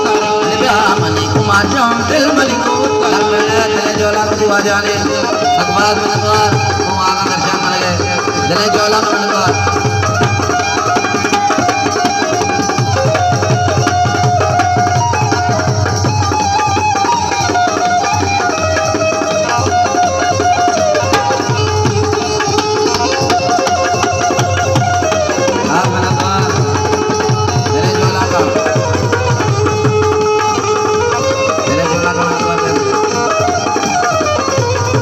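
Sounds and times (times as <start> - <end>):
harmonium melody: 0.0 - 35.0
tabla and hand drum rhythm: 0.0 - 35.0.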